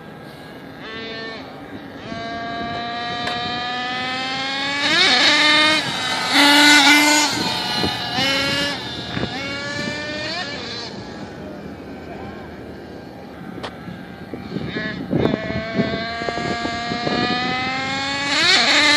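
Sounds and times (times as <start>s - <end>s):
rc truck engine revving: 0.8s - 18.9s.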